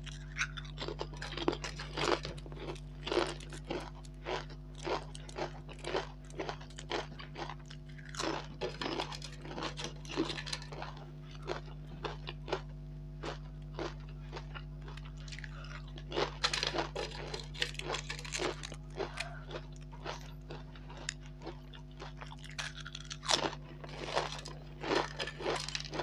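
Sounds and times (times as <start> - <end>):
chips crunching while chewed: 0.0 - 26.0
low electrical hum: 0.0 - 26.0.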